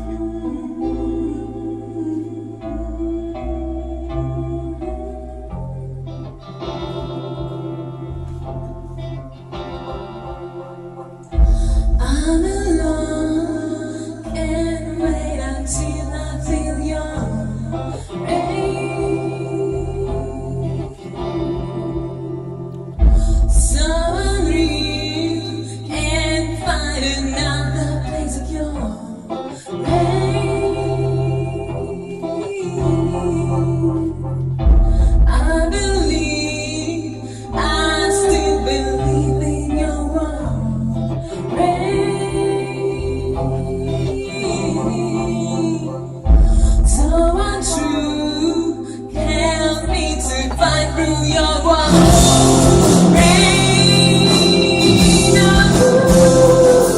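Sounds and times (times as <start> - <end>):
woman singing: 0.0 - 9.2, 11.3 - 56.9
low bass notes: 0.0 - 28.9, 32.8 - 56.9
instrumental backing music: 0.0 - 56.9.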